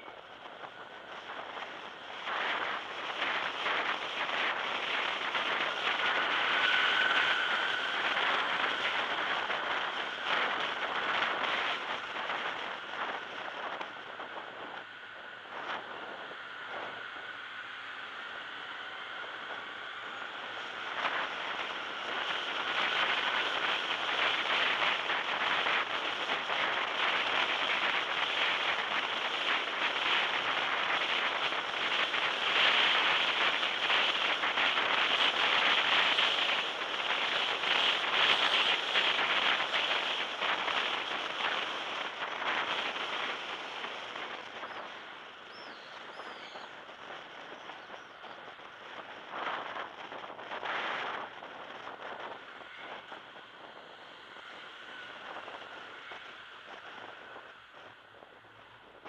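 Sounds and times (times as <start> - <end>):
road noise in a tunnel: 0.0 - 59.0.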